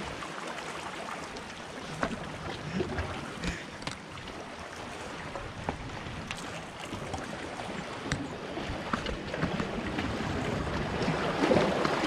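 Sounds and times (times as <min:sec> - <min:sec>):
waves lapping against rocks: 0:00.0 - 0:12.0.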